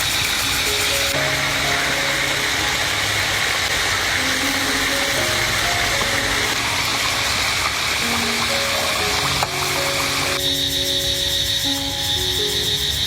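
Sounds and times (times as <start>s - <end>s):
slow background music: 0.0s - 13.0s
steady hiss: 0.0s - 13.0s.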